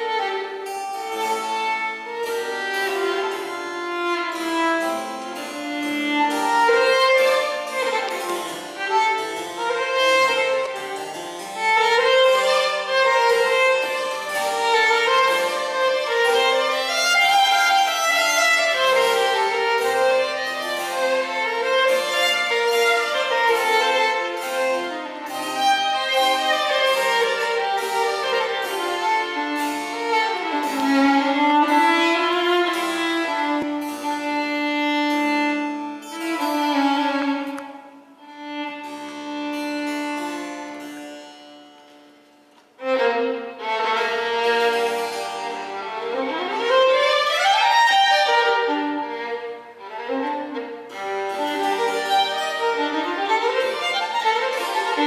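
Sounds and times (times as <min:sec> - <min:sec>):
bowed violin melody: 0:00.0 - 0:55.0
harpsichord chords: 0:00.0 - 0:55.0.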